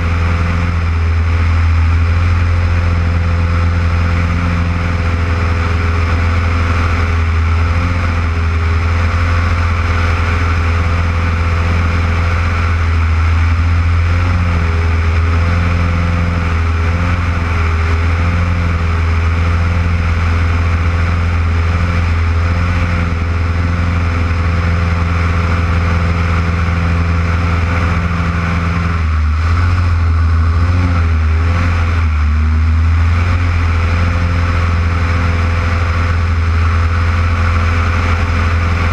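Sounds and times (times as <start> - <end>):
plane engine and propeller droning: 0.0 - 38.9.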